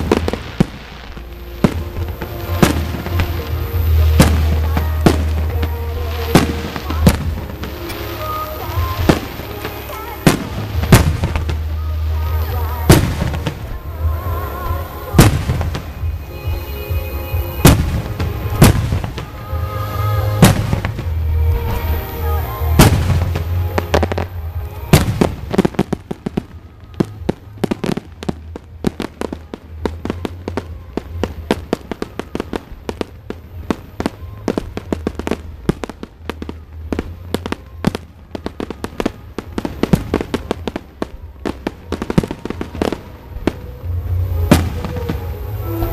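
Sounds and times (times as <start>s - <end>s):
firework shells booming: 0.0s - 45.9s
rapid firework crackling: 0.0s - 45.9s.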